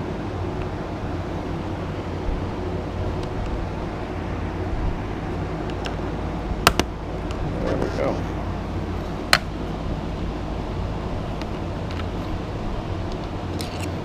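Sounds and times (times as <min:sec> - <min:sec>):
faint constant hum: 0:00.0 - 0:14.0
low rumble and hiss: 0:00.0 - 0:14.0.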